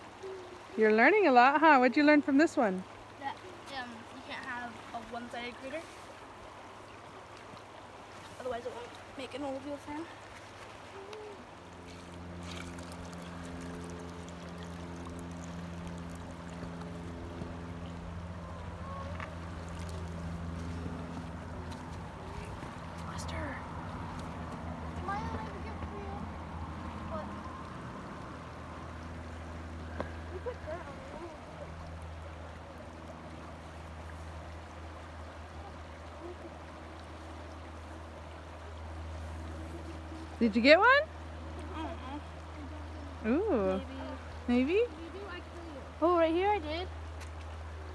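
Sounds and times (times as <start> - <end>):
river water flowing: 0.0 - 47.9
low hum: 8.6 - 47.9.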